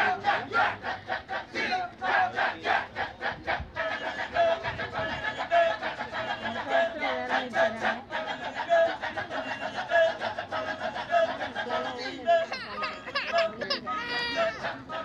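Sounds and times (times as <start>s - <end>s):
men chanting in rhythm: 0.0s - 15.0s.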